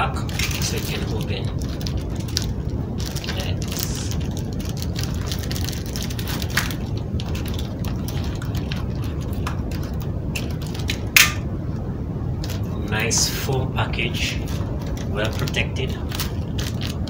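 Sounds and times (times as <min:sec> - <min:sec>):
foam package rustling: 0:00.0 - 0:11.4, 0:14.2 - 0:17.0
low rumble: 0:00.0 - 0:17.0.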